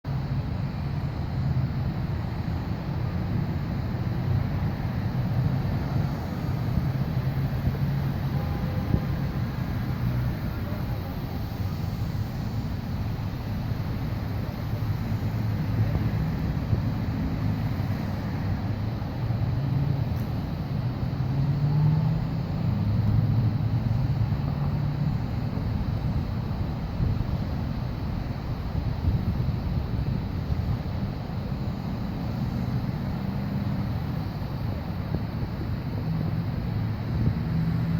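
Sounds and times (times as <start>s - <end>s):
vehicle engine humming: 0.0s - 37.9s
wind buffeting microphone: 0.1s - 37.9s.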